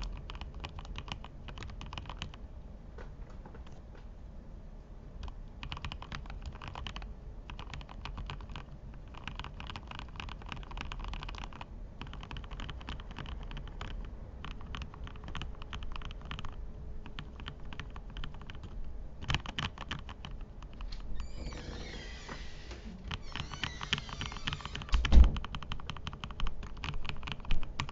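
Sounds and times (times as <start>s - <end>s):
mechanical keyboard typing: 0.0s - 2.4s, 5.2s - 21.0s, 23.1s - 27.9s.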